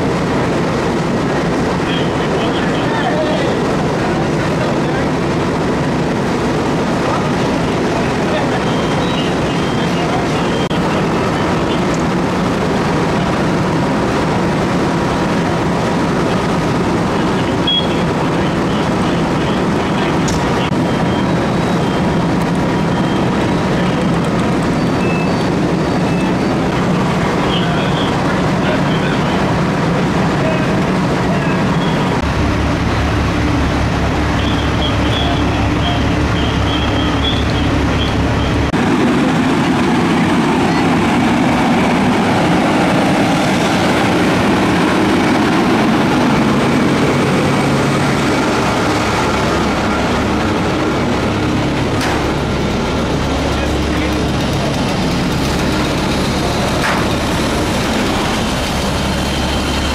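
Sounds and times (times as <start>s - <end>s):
fire engine diesel engines: 0.0s - 59.9s.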